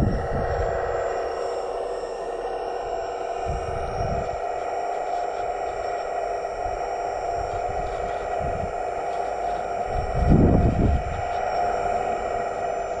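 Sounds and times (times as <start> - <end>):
electric hydraulic pump whining: 0.0 - 13.0.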